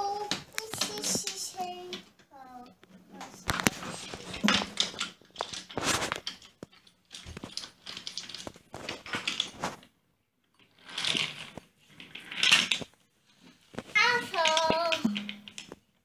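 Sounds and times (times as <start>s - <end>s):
toy train clicking on wooden track: 0.0s - 9.8s, 10.5s - 15.9s.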